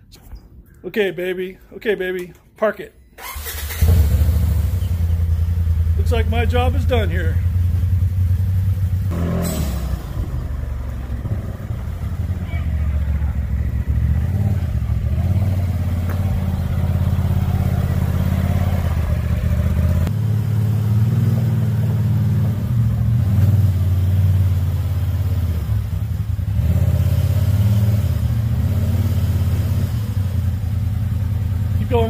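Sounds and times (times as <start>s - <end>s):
vehicle engine running at low speed: 3.8s - 32.0s.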